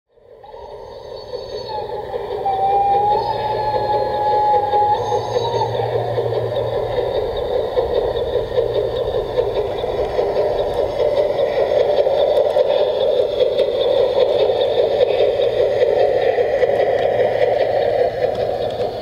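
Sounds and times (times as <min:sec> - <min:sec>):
model train motor humming: 0:00.2 - 0:19.0
wheels rolling on rails: 0:00.5 - 0:19.0.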